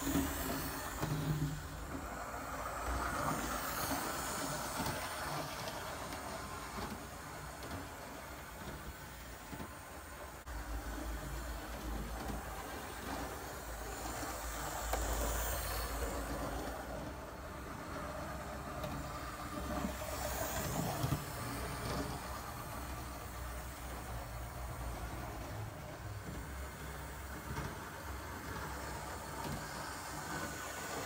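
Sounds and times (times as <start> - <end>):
model train motor hum: 0.0 - 31.0
wheels rumbling on rails: 0.0 - 31.0.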